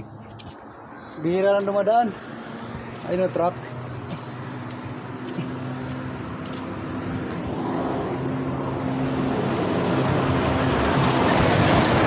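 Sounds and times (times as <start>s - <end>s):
truck passing at speed: 2.0s - 12.0s.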